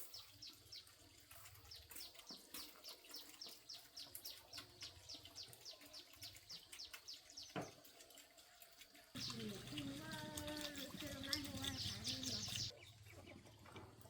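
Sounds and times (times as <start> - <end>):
faint bird chirping: 0.0 - 7.8, 9.2 - 14.0.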